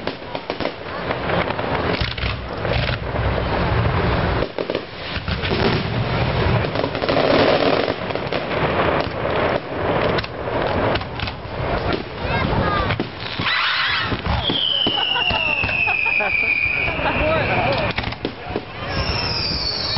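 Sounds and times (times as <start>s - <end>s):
fireworks bursting and crackling: 0.0s - 19.9s.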